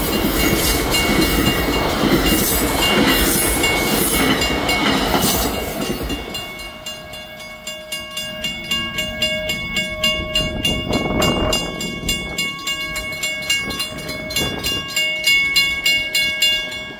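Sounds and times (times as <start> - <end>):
passing train rumble: 0.0 - 16.9
railway crossing bells clanging: 0.0 - 16.9.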